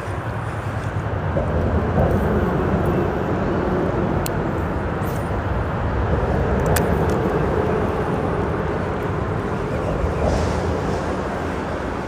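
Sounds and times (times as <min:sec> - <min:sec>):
roar of freeway traffic: 0:00.0 - 0:12.0.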